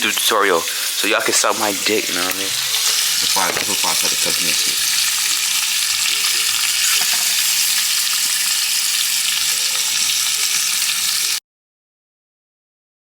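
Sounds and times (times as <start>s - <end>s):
bacon sizzling in a frying pan: 0.0s - 11.4s.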